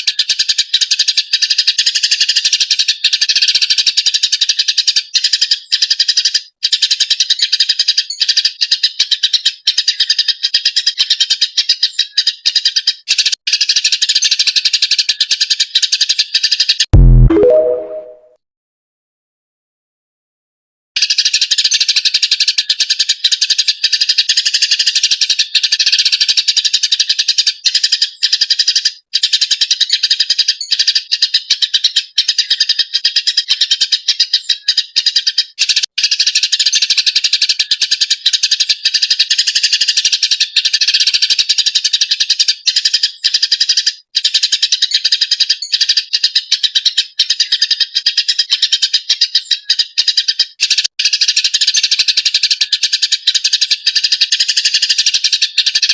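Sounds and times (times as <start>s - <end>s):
sparrow chirping: 0.0s - 16.8s, 21.0s - 55.9s.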